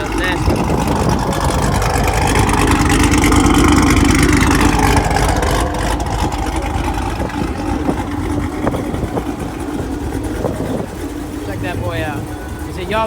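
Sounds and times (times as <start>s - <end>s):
car engine loud exhaust: 0.0s - 13.0s.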